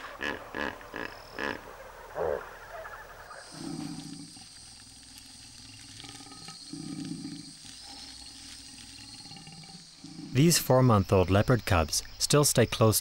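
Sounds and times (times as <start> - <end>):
leopard cubs growling: 0.0 - 11.0
high insect drone: 0.0 - 13.0.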